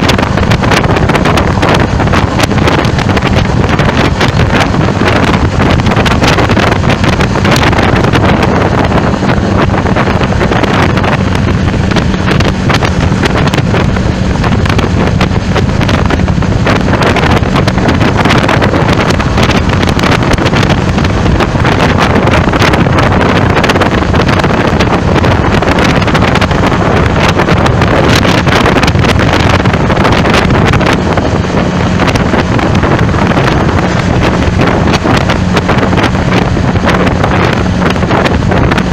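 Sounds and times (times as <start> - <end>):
low vehicle drone: 0.0 - 38.9
wind buffeting microphone: 0.0 - 38.9.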